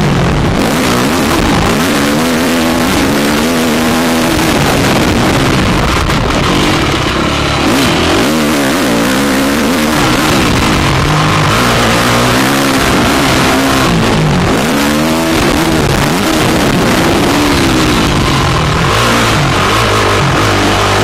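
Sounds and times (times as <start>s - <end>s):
dirt bike engine revving: 0.0s - 21.0s
steady rushing noise: 0.0s - 21.0s.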